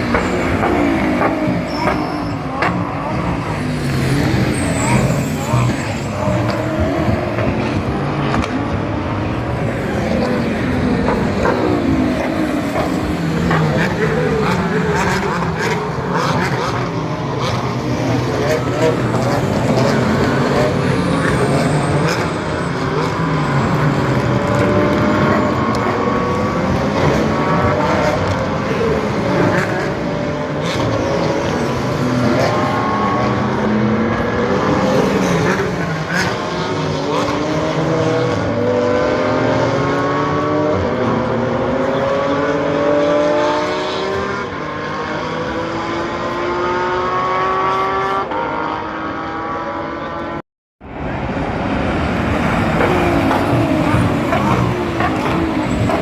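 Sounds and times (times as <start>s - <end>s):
race car engines accelerating: 0.0s - 56.0s.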